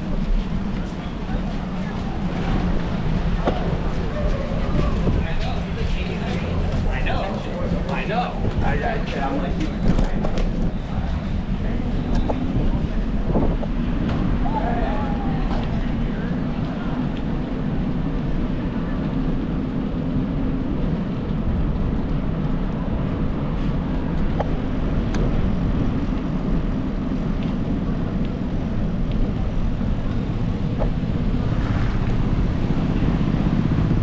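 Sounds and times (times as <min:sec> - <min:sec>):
bicycle road noise: 0:00.0 - 0:34.0
wind rumble: 0:00.0 - 0:34.0.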